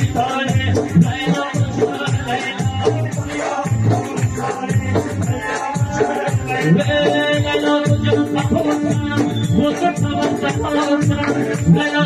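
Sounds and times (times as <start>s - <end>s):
dance music with drum beat: 0.0s - 12.0s.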